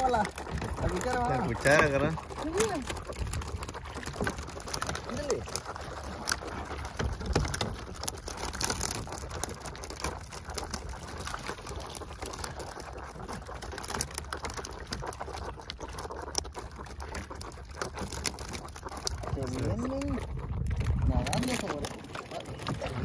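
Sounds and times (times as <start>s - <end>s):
water splashing through dip net: 0.0s - 23.0s.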